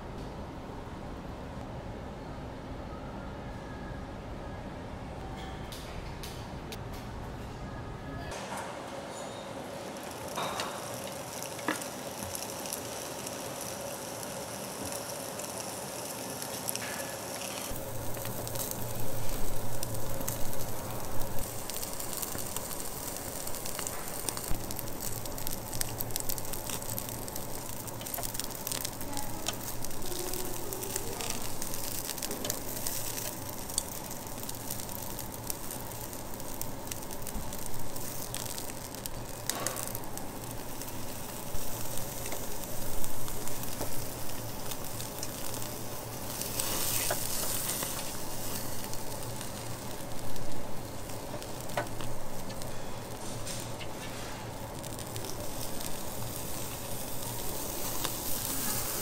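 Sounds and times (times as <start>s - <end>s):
pork sizzling on a grill plate: 9.6s - 59.0s.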